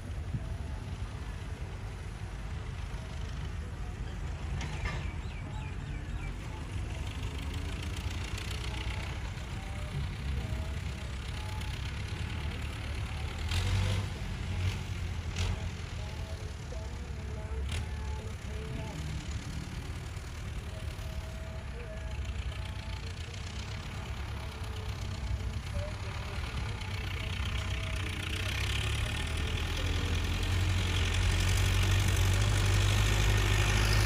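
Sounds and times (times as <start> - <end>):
tractor engine rumbling: 0.0 - 34.0.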